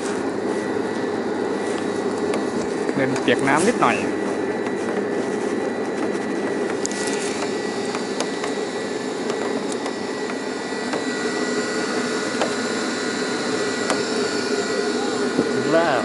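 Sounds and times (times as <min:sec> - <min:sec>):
cable lift whirring: 0:00.0 - 0:16.0
faint high whine: 0:00.0 - 0:16.0.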